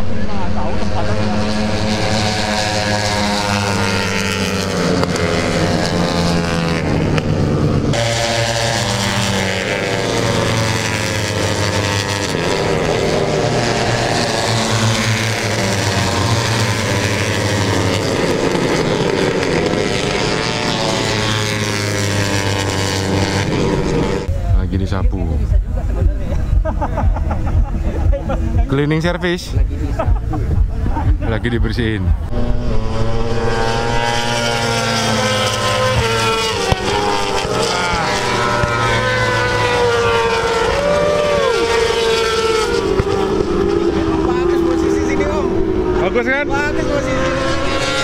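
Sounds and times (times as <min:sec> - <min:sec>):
low drone: 0:00.0 - 0:47.8
motorcycle engines revving: 0:00.0 - 0:48.0.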